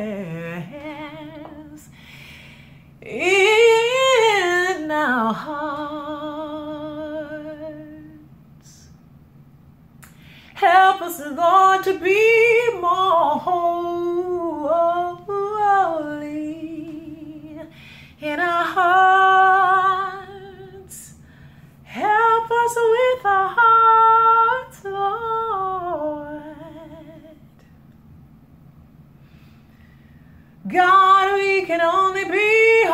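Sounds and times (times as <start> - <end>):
woman singing with vibrato: 0.0 - 8.8, 10.5 - 21.2, 21.8 - 27.6, 30.6 - 32.9.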